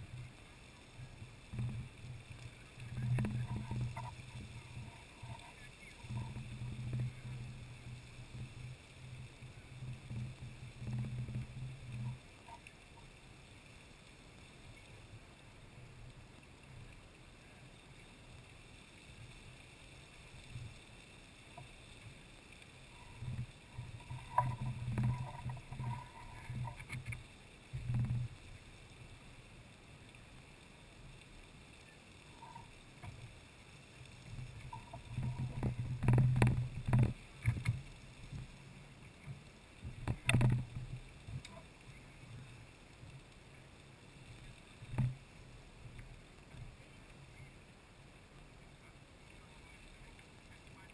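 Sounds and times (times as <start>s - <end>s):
geyser water rushing hiss: 0.0s - 50.9s.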